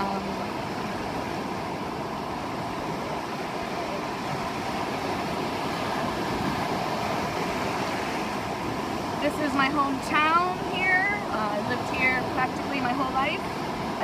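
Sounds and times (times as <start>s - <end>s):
breaking surf: 0.0s - 14.0s
wind on microphone: 0.0s - 14.0s.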